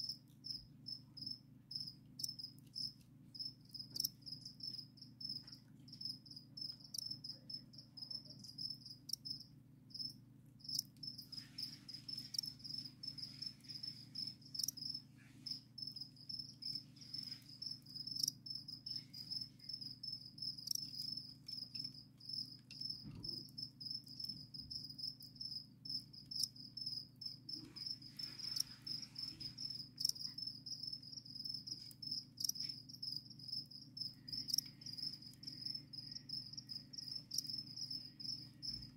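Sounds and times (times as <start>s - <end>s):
crickets chirping: 0.0s - 38.9s
low steady hum: 0.1s - 38.9s.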